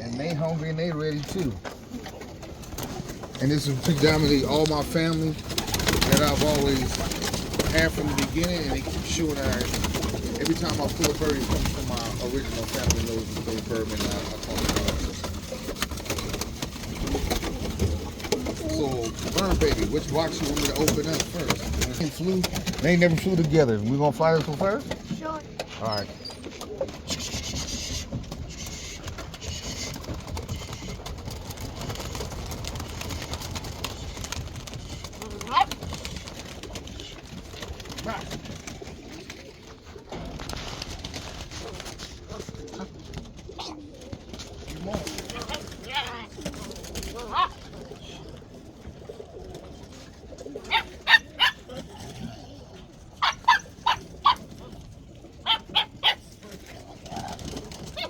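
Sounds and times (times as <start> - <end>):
rubbing and scraping: 0.0 - 48.2.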